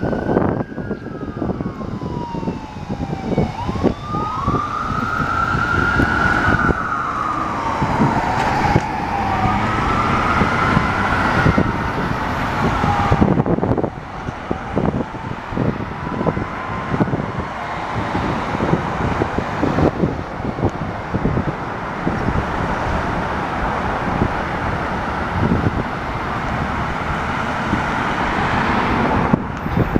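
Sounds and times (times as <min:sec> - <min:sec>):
sirens wailing: 0:00.0 - 0:29.9
vehicle rumble and road noise: 0:00.0 - 0:29.9.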